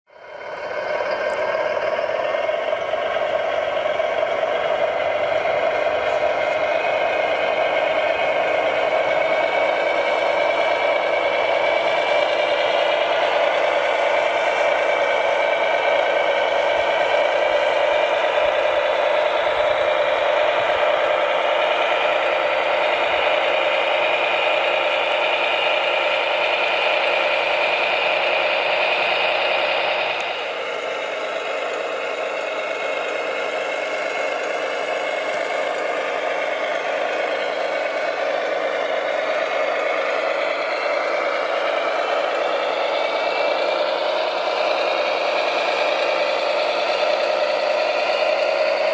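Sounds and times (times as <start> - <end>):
electric motors whining: 0.2 - 48.9.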